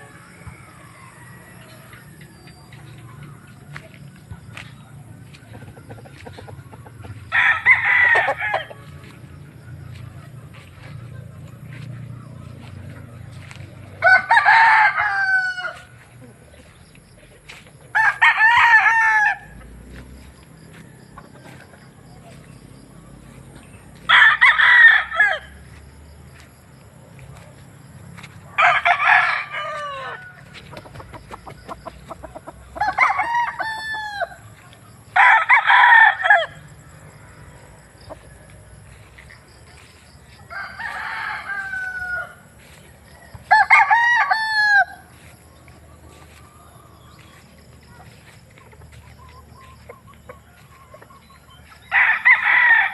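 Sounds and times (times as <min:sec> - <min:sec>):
roosters crowing: 0:00.0 - 0:52.9.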